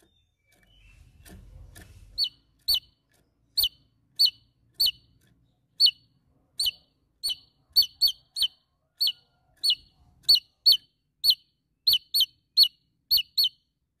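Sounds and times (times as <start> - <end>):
bird calling sharp notes: 2.2 - 13.7.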